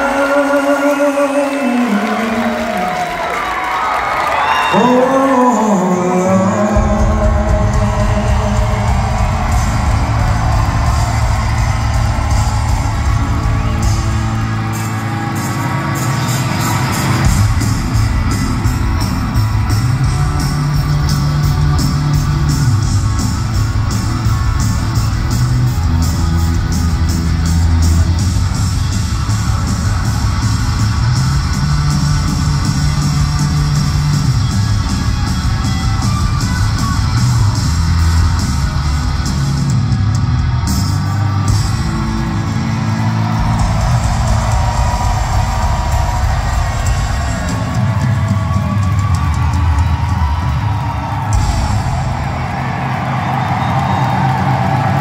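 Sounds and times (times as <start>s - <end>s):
bass guitar: 6.1s - 55.0s
live rock band instrumental: 6.2s - 55.0s
steady drum beat: 6.4s - 55.0s.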